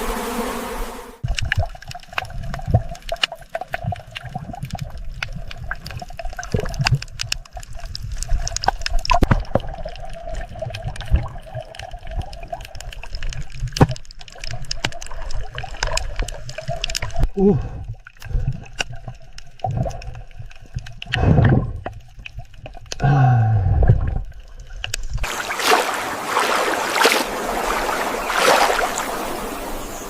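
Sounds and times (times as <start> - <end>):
water splashing and trickling: 1.2 - 23.0, 23.8 - 30.0.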